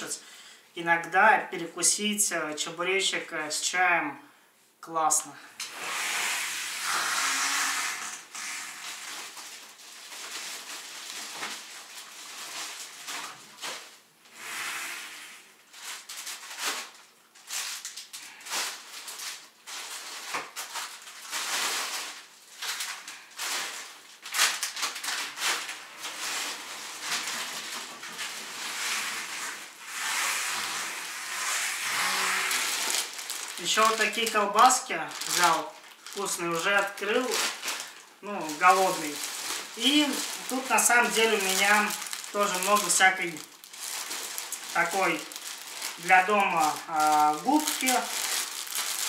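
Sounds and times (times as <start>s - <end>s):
plastic bags rustling: 5.6s - 15.0s, 15.6s - 49.0s.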